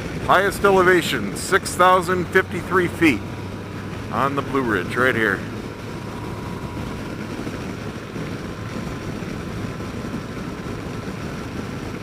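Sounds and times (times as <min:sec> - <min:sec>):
motorcycle engine hum: 0:00.0 - 0:12.0
wind rush: 0:00.0 - 0:12.0.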